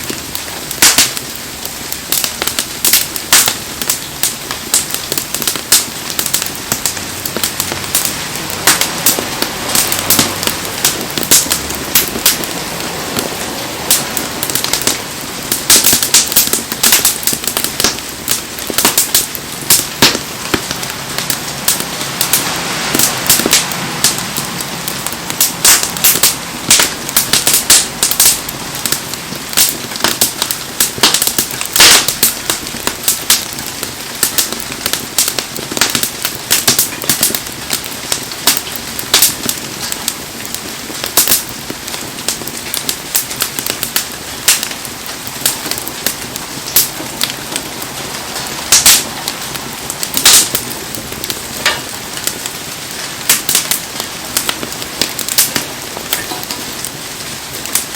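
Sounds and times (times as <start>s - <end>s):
bonfire crackling and popping: 0.0s - 57.9s
heavy rain hiss: 0.0s - 57.9s.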